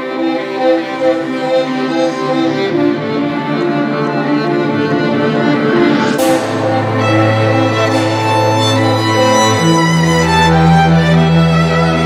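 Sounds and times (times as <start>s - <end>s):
bowed string melody: 0.0s - 12.0s.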